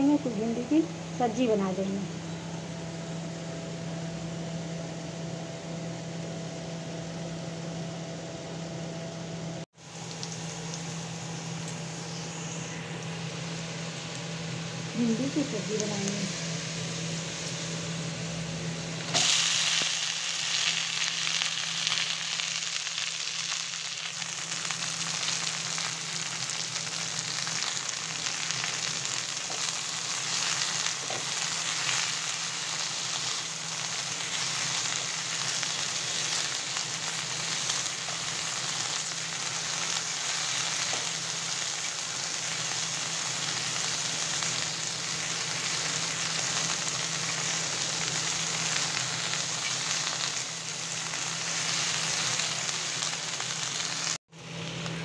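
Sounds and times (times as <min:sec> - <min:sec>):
okra sizzling in hot oil: 0:09.6 - 0:55.0.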